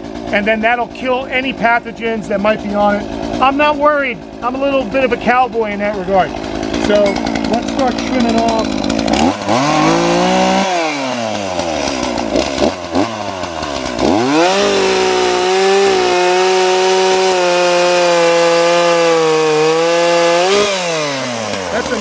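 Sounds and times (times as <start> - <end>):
chainsaw revving and cutting: 0.0 - 22.0.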